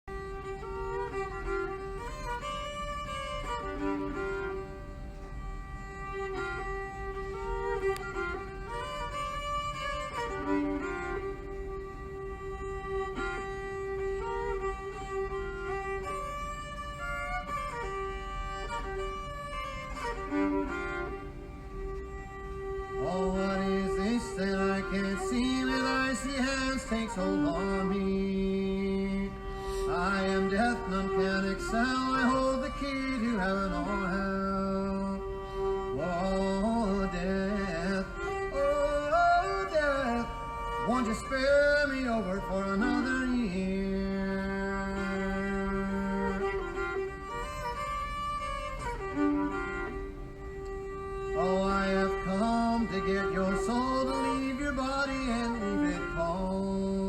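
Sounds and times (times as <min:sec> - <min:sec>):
bowed fiddle melody: 0:00.0 - 0:57.0
lower fuller accompaniment: 0:00.1 - 0:57.0.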